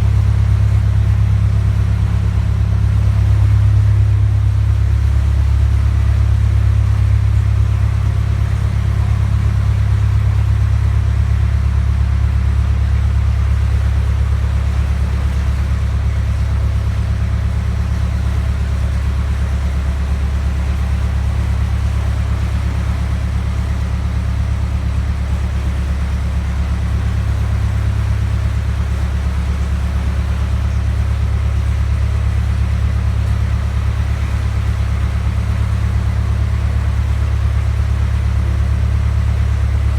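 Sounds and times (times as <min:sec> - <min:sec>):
boat engine running low rumble: 0:00.0 - 0:39.9.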